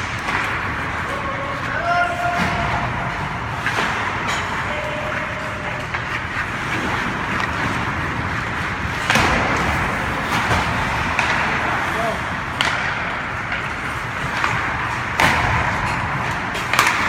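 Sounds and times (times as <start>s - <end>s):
ice rink noise: 0.0s - 17.0s.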